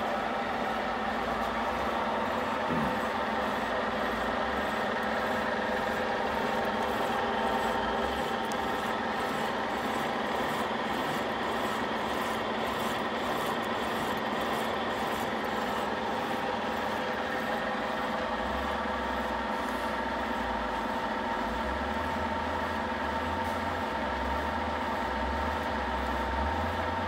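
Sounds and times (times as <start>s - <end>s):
drill whining steadily: 0.0s - 27.0s.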